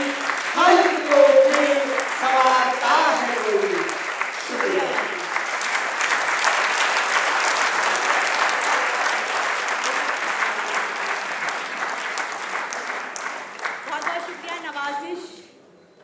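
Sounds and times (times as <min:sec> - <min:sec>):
large audience applauding: 0:00.0 - 0:14.9.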